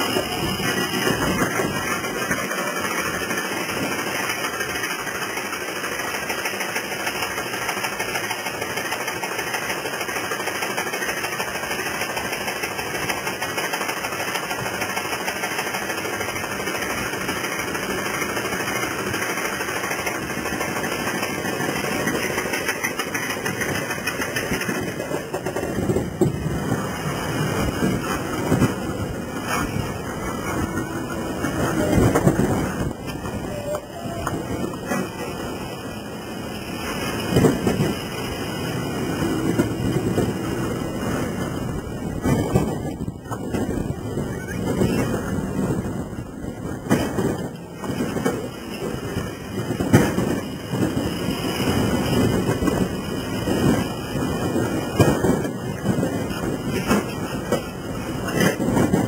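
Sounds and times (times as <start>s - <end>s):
roller coaster chain lift clatter: 0.0s - 59.0s.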